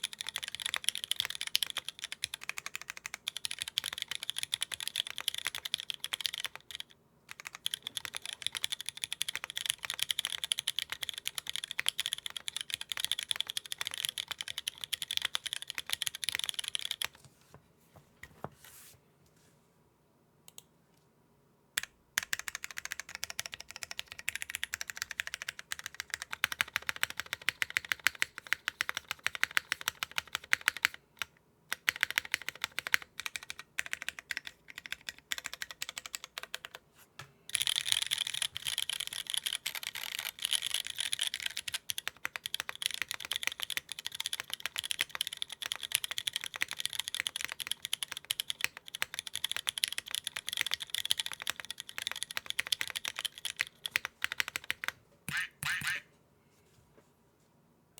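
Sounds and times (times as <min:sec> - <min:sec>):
fast typing on mechanical keyboard: 0:00.0 - 0:17.2, 0:21.8 - 0:36.8, 0:37.5 - 0:55.4.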